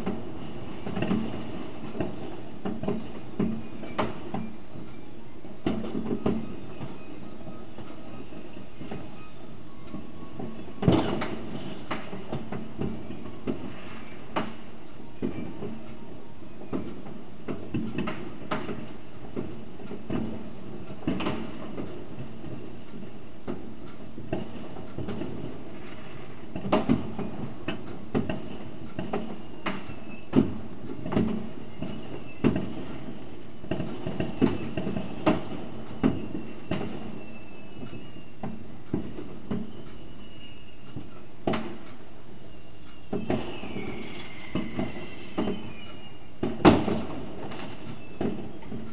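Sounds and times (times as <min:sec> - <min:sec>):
background noise: 0:00.0 - 0:48.9
distant fireworks bangs and cracks: 0:00.0 - 0:48.9.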